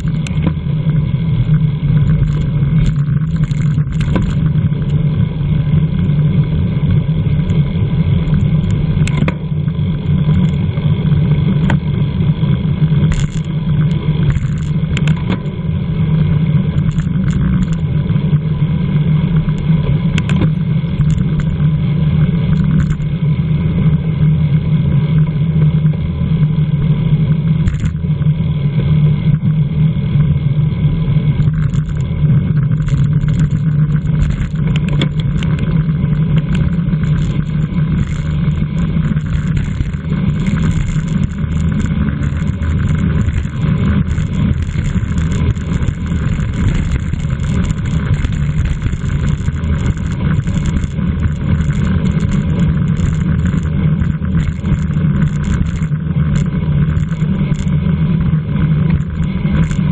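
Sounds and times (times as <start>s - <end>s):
bicycle road noise: 0.0s - 59.9s
rumbling wind: 0.0s - 59.9s.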